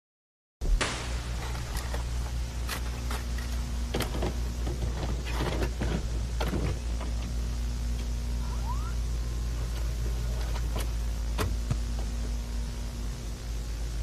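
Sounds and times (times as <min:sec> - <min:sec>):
electrical hum and hiss: 0:00.6 - 0:14.0.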